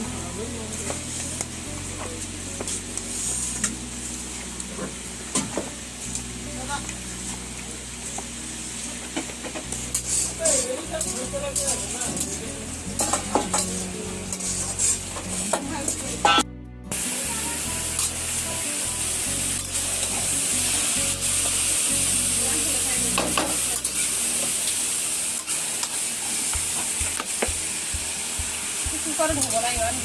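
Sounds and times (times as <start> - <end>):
meat sizzling in hot oil: 0.1 - 16.3, 16.9 - 30.0.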